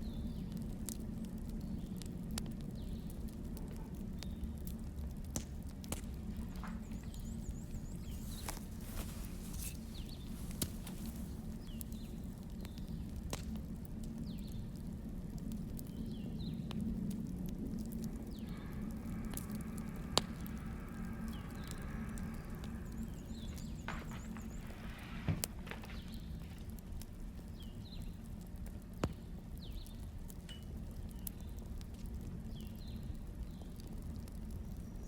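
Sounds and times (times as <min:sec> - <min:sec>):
fire pops and snaps: 0:00.0 - 0:35.0
low rumble of burning logs: 0:00.0 - 0:35.0.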